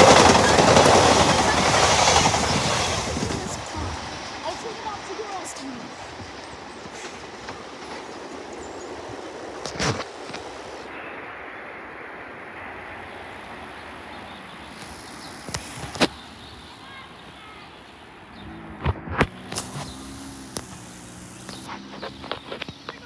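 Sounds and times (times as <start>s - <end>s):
train rushing past: 0.0s - 23.0s.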